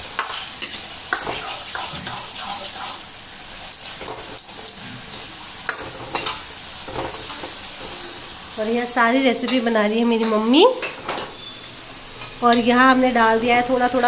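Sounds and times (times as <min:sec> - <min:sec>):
frying sizzle: 0:00.0 - 0:14.0.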